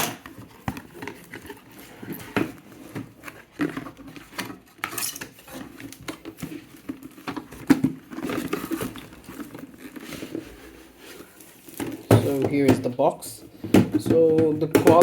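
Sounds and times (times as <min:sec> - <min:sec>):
packaging rustles scrapes and taps: 0:00.0 - 0:15.0.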